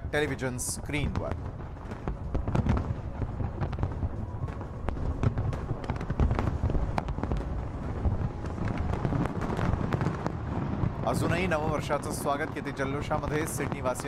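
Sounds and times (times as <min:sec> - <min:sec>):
continuous low rumble: 0:00.0 - 0:14.0
fireworks bangs and crackles: 0:00.0 - 0:14.0.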